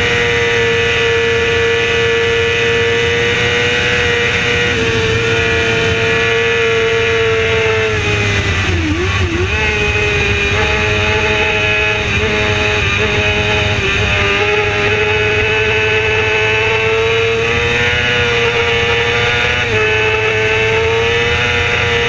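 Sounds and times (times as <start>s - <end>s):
racing motorcycle engine at high revs: 0.0s - 22.0s.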